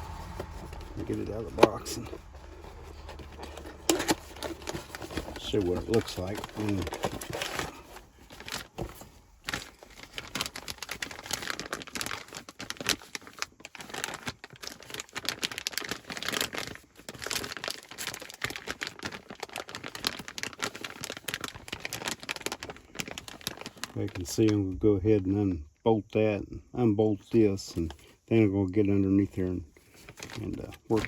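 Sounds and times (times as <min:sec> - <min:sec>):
packaging rustling and crinkling: 0:00.0 - 0:24.6, 0:28.8 - 0:31.0
packaging tearing: 0:00.1 - 0:24.5, 0:29.8 - 0:31.0.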